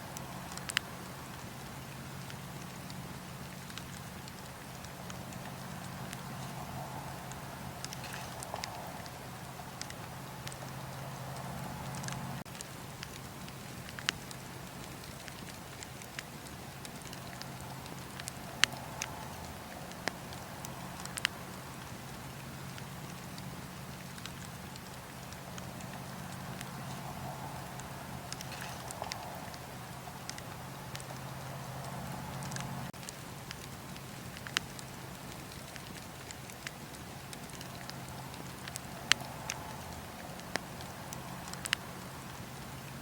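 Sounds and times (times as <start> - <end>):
soft steady fire hiss: 0.0 - 43.0
campfire pops and snaps: 0.1 - 43.0.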